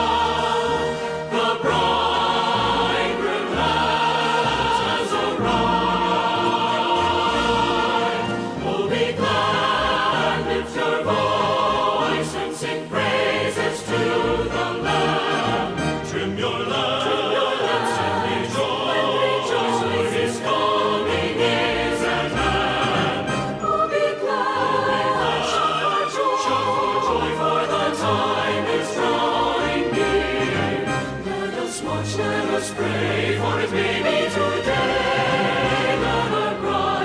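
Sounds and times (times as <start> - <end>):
choir singing: 0.0 - 37.0
instrumental accompaniment: 0.0 - 37.0.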